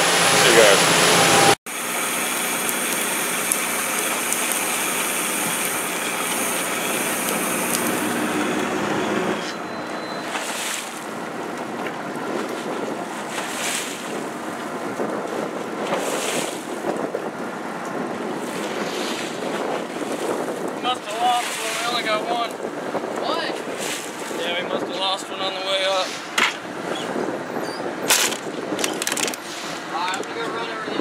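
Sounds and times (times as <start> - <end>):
boat engine running: 0.0 - 31.0
water churning: 0.0 - 31.0
wind on microphone: 2.2 - 31.0.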